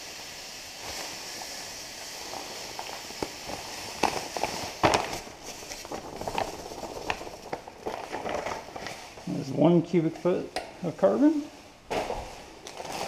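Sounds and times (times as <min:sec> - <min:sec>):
carbon pouring through funnel hiss: 0:00.0 - 0:13.0
plastic bag crinkling: 0:00.8 - 0:13.0.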